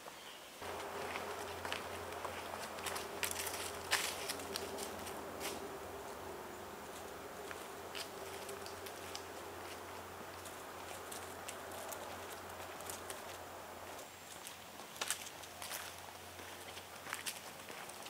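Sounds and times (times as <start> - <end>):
faint steady hum: 0.6 - 18.0
footsteps on leafy pavement: 0.6 - 18.0.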